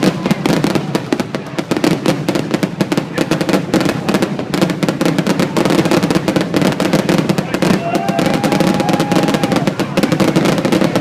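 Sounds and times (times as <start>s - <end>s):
fireworks barrage: 0.0s - 11.0s.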